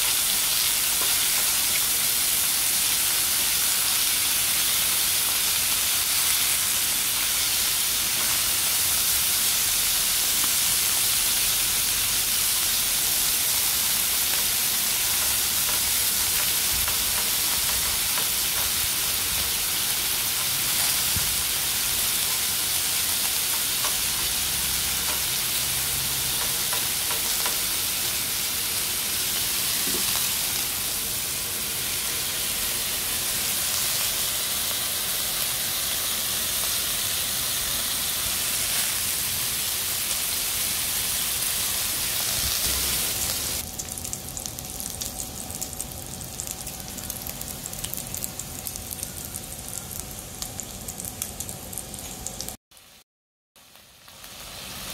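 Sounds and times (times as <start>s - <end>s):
pork sizzling on grill pan: 0.0s - 53.0s, 53.6s - 54.9s.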